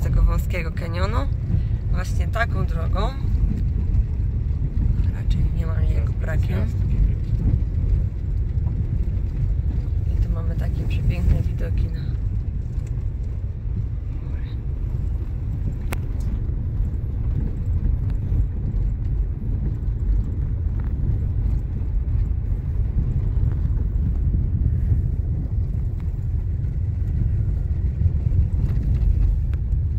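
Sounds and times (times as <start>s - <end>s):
car rumbling on dirt road: 0.0s - 29.9s.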